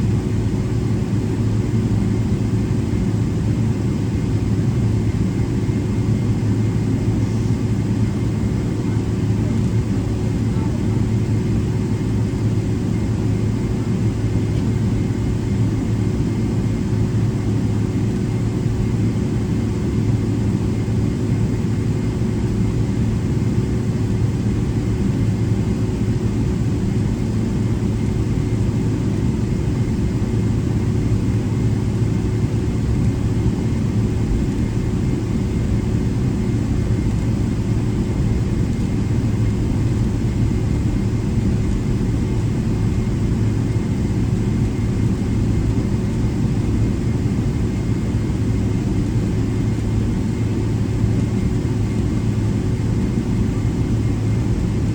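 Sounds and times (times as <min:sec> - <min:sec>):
low cabin rumble: 0:00.0 - 0:18.8, 0:23.9 - 0:54.9.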